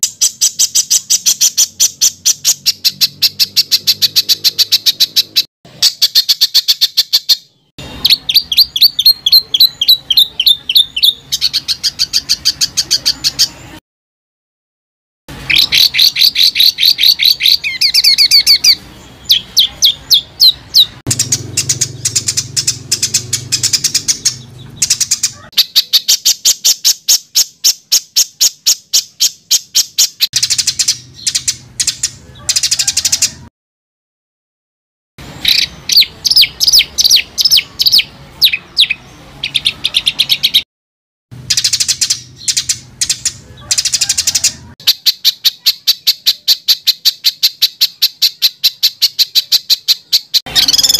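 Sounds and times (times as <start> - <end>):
songbird singing rapid trills: 0.0 - 13.6, 15.5 - 33.4, 35.4 - 40.6, 41.5 - 50.9.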